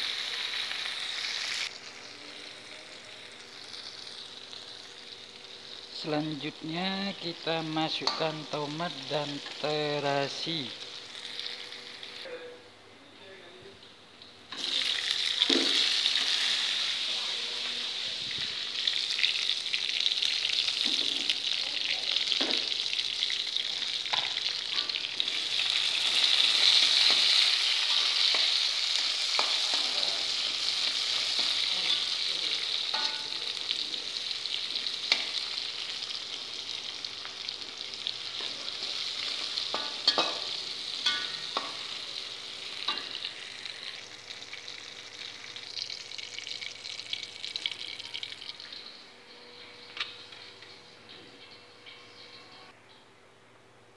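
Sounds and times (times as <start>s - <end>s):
food sizzling in a wok: 0.0s - 12.3s, 14.5s - 50.6s.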